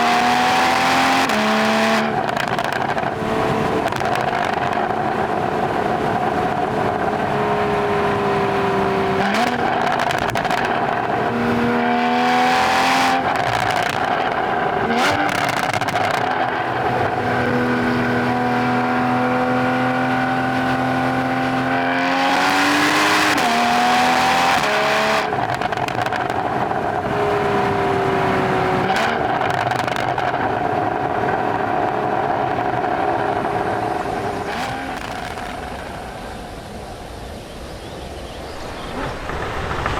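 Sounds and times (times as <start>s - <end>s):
car engine revving through gears: 0.0s - 35.9s.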